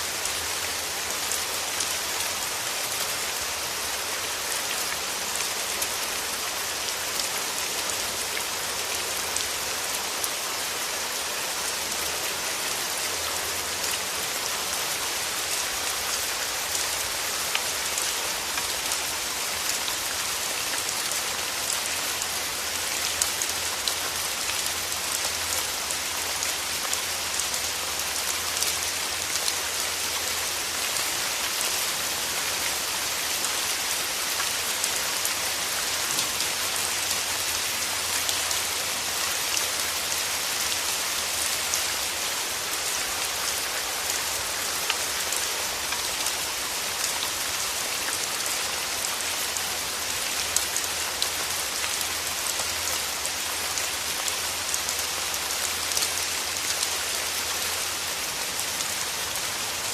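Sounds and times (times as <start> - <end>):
rain falling through trees: 0.0 - 59.9.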